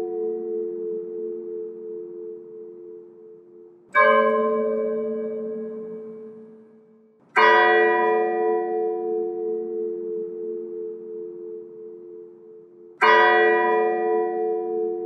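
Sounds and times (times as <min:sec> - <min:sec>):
church bell tolling: 0:00.0 - 0:15.0.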